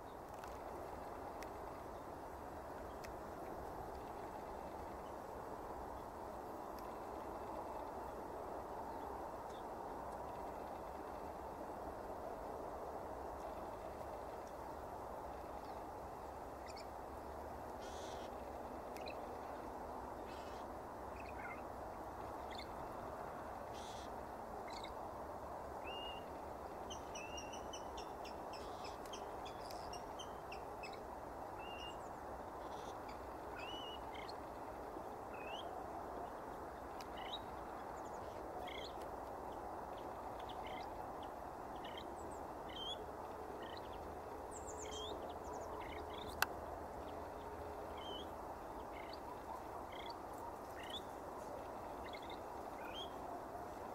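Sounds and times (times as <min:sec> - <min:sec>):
steady background noise: 0:00.0 - 0:53.9.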